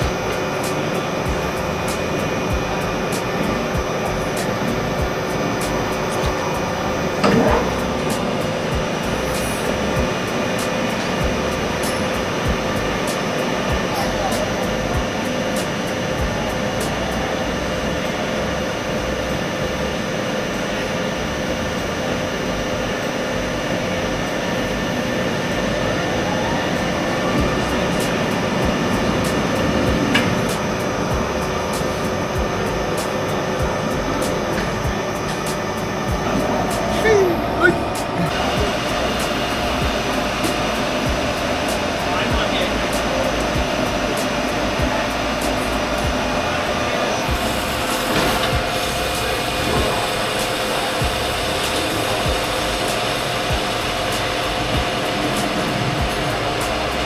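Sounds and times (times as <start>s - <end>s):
machine tool running: 0.0s - 57.0s.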